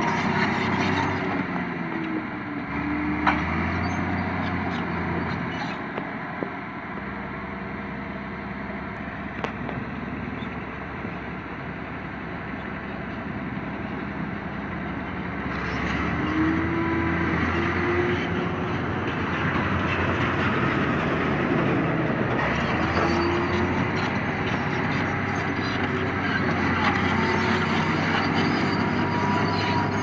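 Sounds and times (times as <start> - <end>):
bulldozer diesel engine running: 0.0 - 30.0
dump truck engine approaching: 0.0 - 30.0.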